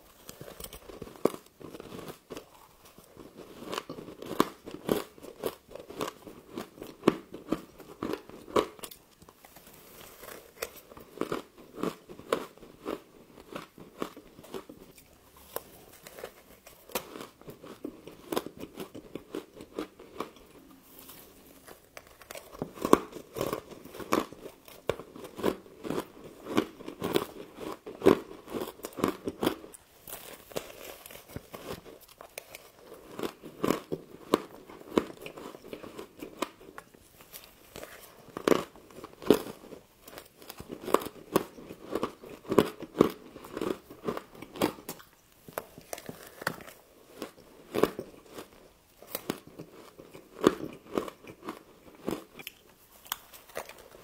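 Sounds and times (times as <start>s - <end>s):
crunching and chewing frost: 0.0s - 54.0s.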